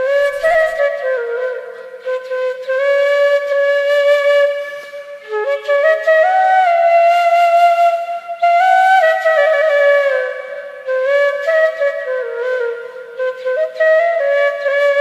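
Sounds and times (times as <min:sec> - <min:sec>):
slow flute melody: 0:00.0 - 0:15.0.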